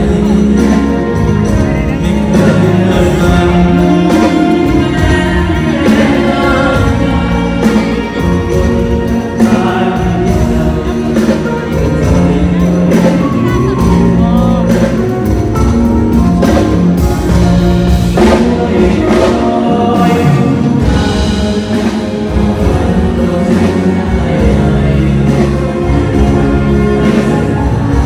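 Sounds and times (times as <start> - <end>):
live music with backing beat: 0.0 - 28.0
person singing into microphone: 0.0 - 28.0.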